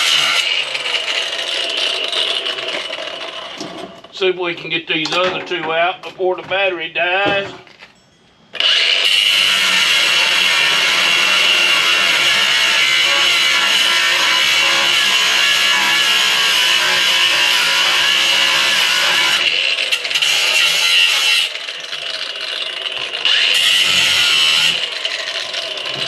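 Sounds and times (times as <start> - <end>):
angle grinder cutting metal: 0.0 - 4.8, 8.5 - 26.0.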